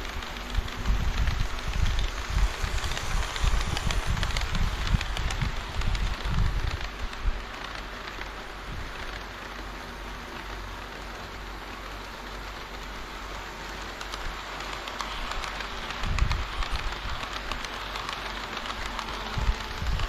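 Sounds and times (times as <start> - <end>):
model train rolling hiss: 0.0 - 20.0.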